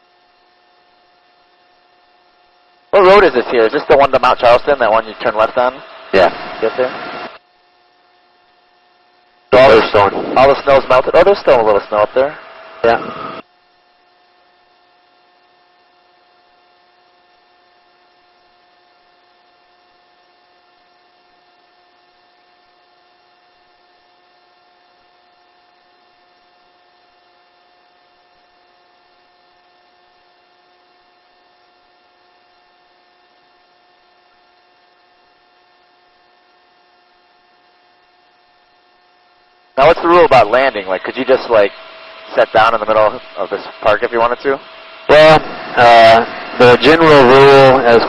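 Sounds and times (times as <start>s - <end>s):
faint steady electrical hum: 0.0s - 48.0s.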